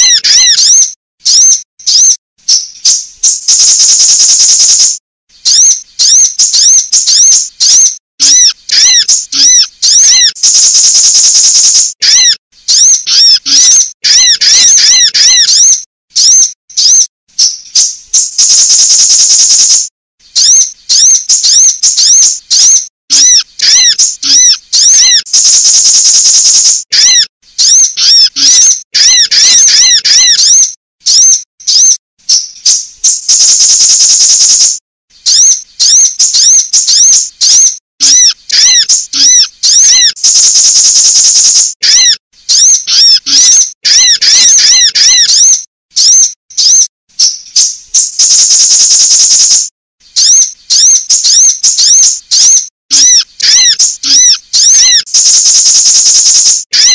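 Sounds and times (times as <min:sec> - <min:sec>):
rapid high bird chirps: 0:00.0 - 0:56.9
very high bird trill: 0:00.0 - 0:56.9.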